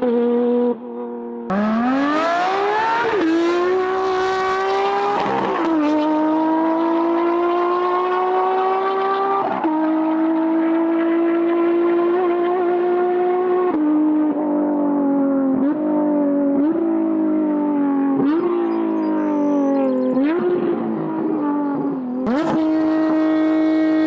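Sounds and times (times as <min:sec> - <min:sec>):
sports car engine revving with upshifts: 0:00.0 - 0:24.0.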